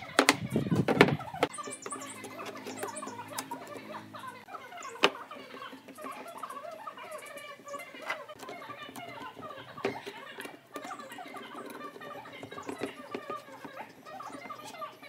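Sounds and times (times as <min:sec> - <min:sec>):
small squeaky chirps: 0:00.0 - 0:15.0.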